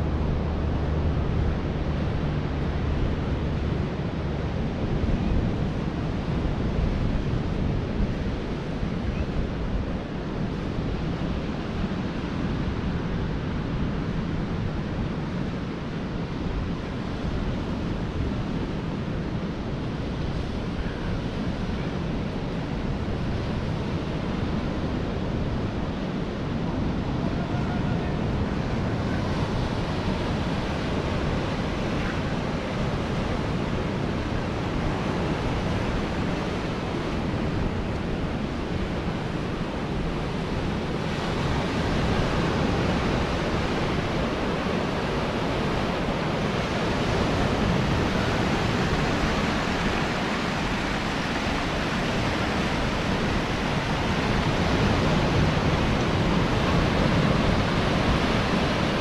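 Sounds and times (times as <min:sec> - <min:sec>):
ocean surf: 0:00.0 - 0:59.0
wind noise on microphone: 0:00.0 - 0:59.0.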